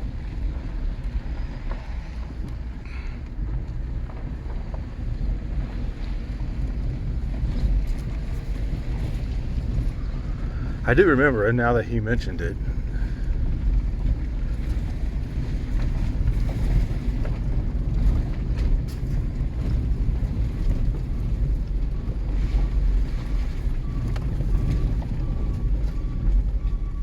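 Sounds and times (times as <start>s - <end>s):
vehicle engine drone: 0.0s - 27.0s
wind rumbling on microphone: 0.0s - 27.0s.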